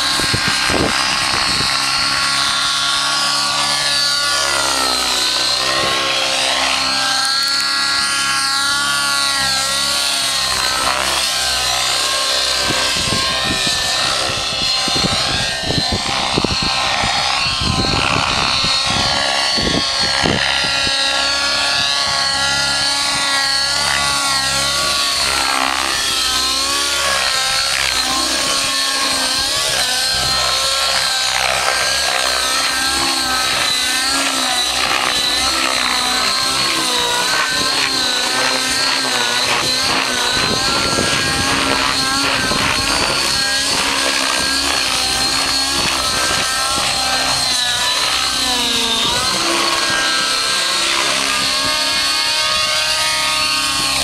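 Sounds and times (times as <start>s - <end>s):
model helicopter whining: 0.0s - 54.0s.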